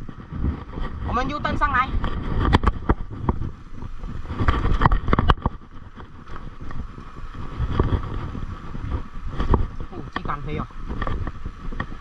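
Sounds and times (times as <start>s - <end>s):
bike clicks and knocks over bumps: 0.0s - 12.0s
wind rumble on microphone: 0.0s - 12.0s.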